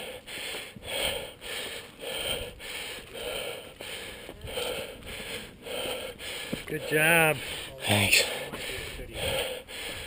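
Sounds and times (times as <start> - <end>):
heavy rapid breathing: 0.0 - 10.0.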